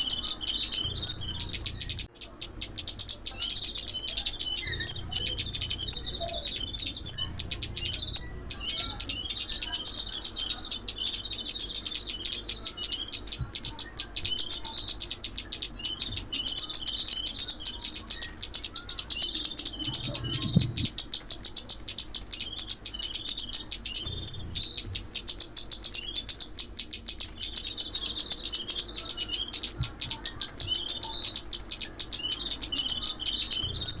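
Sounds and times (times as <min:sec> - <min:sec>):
rapid high bird twittering: 0:00.0 - 0:34.0
thin steady high tone: 0:00.0 - 0:34.0.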